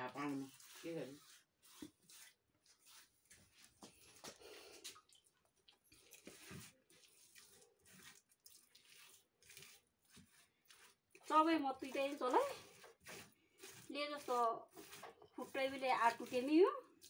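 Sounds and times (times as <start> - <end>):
hand smearing wet mud plaster: 0.0 - 5.1, 5.7 - 17.0.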